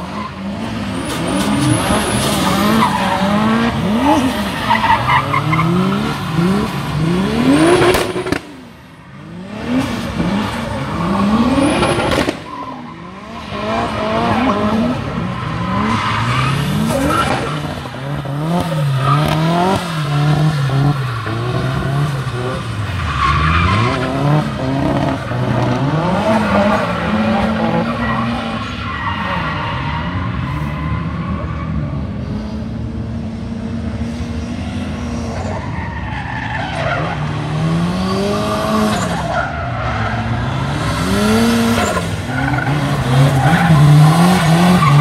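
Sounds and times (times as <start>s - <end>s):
tyres skidding on wet tarmac: 0.0s - 8.8s, 9.6s - 31.8s, 35.2s - 45.0s
car engines revving: 0.0s - 45.0s.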